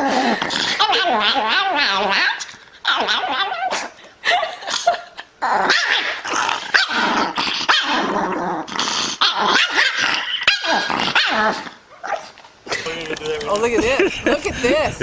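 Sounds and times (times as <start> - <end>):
dog growling and barking: 0.0 - 12.9.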